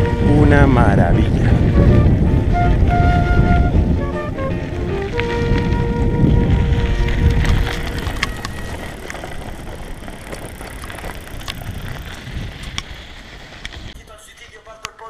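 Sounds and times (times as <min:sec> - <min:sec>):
bicycle tyres crunching on gravel: 0:00.0 - 0:02.5, 0:04.4 - 0:14.6
wind rumbling on microphone: 0:00.0 - 0:14.0.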